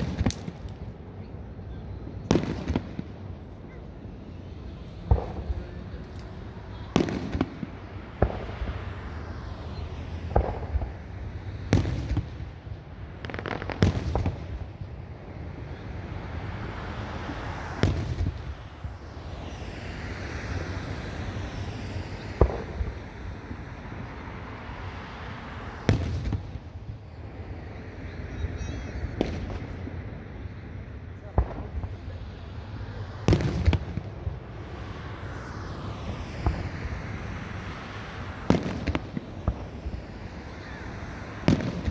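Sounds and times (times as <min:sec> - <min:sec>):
fireworks bangs: 0:00.0 - 0:01.0, 0:02.0 - 0:19.6, 0:20.5 - 0:27.2, 0:28.1 - 0:35.2, 0:35.8 - 0:41.9
steady background rumble: 0:00.0 - 0:41.9.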